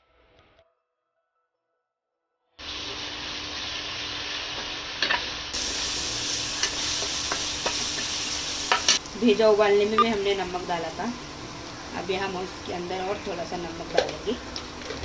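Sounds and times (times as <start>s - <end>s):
onions sizzling in hot oil: 2.6s - 15.0s.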